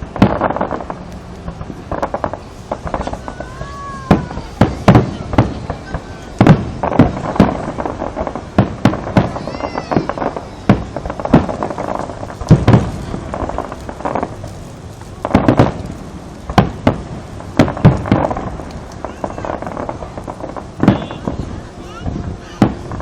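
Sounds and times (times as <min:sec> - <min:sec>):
constant rumble: 0:00.0 - 0:23.0
fireworks bangs: 0:00.0 - 0:23.0.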